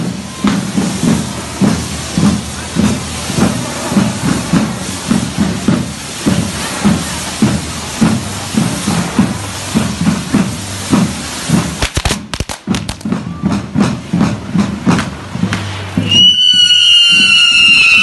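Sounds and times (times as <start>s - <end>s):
low thumping beat: 0.0s - 16.4s
firework fountains hissing and crackling: 0.0s - 18.0s.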